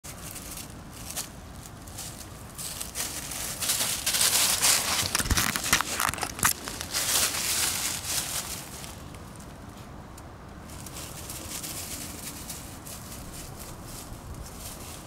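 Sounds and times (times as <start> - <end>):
dry leaves crackling under paws: 0.1 - 9.9, 10.6 - 15.0.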